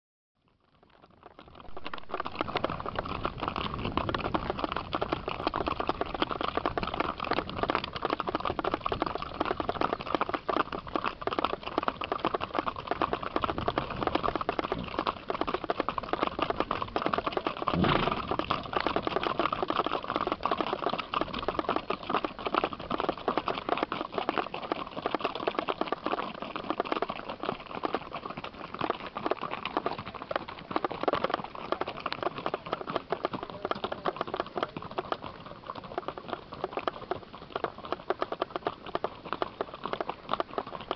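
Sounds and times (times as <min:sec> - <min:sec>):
hooves clip-clopping on gravel road: 0:00.4 - 0:40.9.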